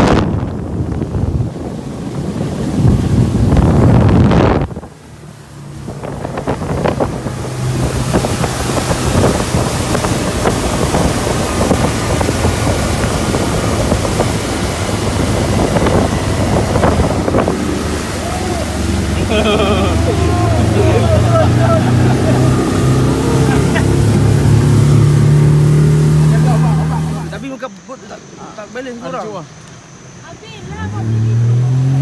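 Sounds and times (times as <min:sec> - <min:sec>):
wind buffeting microphone: 0:00.0 - 0:27.4
outboard motor drone: 0:00.0 - 0:32.0
water rushing from wake: 0:00.0 - 0:32.0.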